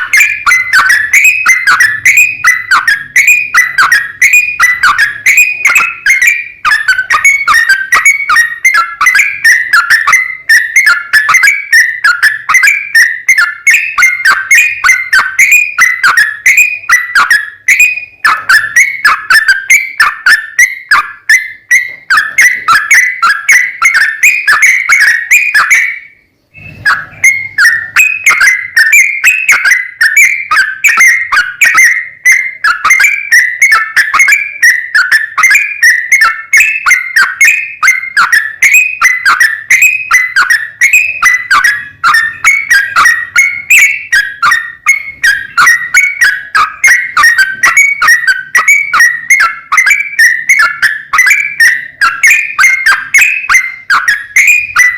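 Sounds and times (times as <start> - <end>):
bird song of whistled notes: 0.0 - 54.9.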